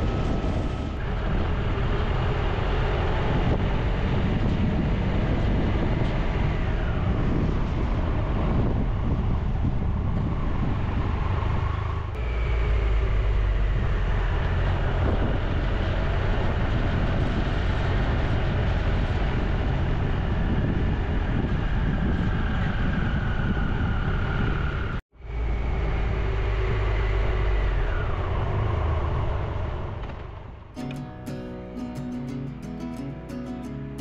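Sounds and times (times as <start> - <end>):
wind and road noise: 0.0 - 34.0.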